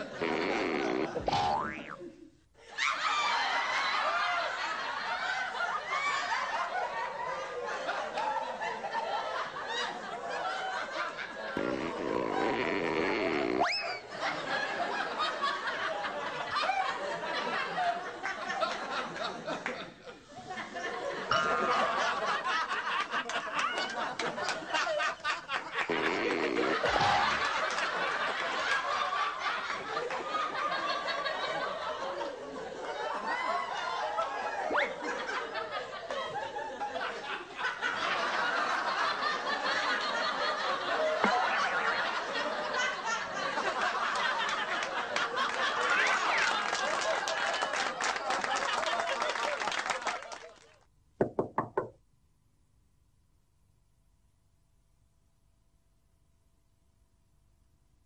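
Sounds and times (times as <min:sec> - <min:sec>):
people laughing and snickering: 0:00.0 - 0:49.6.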